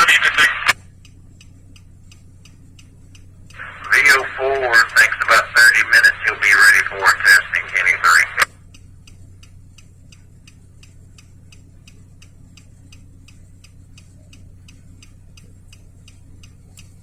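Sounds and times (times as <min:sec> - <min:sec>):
car engine idling: 0:00.0 - 0:17.0
turn signal clicking: 0:00.0 - 0:17.0.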